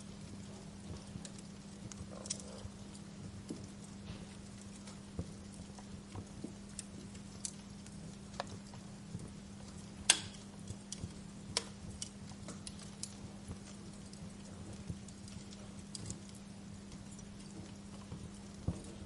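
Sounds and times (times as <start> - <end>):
low steady hum: 0.0 - 19.0
wood fire crackling: 0.0 - 19.0.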